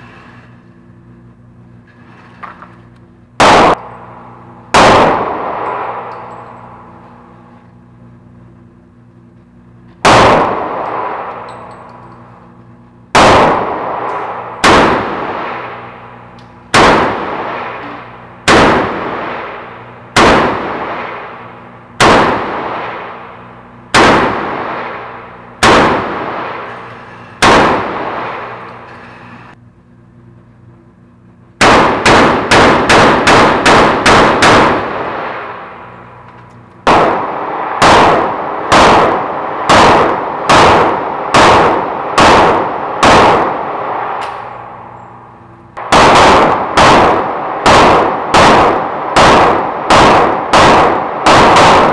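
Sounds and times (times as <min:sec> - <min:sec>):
revolver gunshots echoing indoors: 0:00.3 - 0:29.6, 0:31.2 - 0:51.9.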